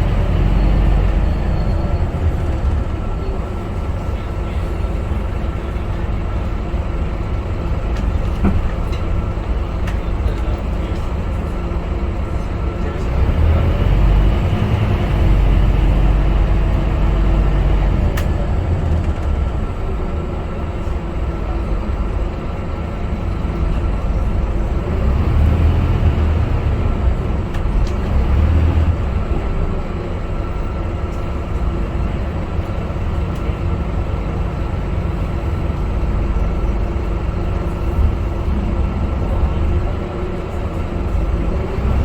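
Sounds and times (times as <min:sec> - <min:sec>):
bus diesel engine rumbling: 0:00.0 - 0:42.0.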